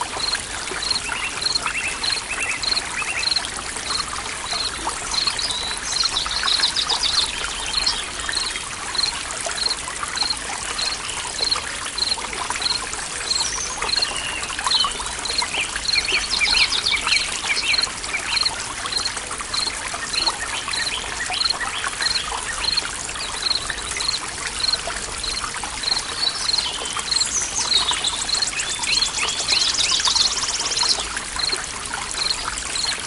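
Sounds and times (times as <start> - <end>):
stream trickling and splashing: 0.0 - 33.0.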